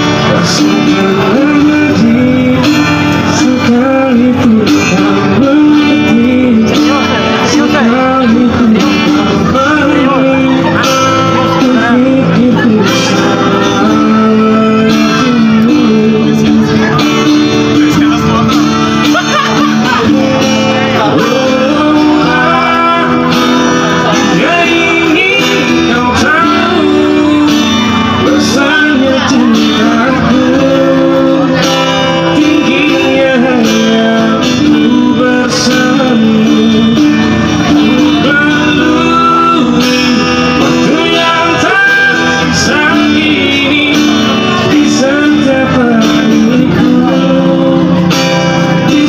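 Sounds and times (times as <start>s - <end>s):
man singing: 0.0s - 49.0s
strummed acoustic guitar: 0.0s - 49.0s.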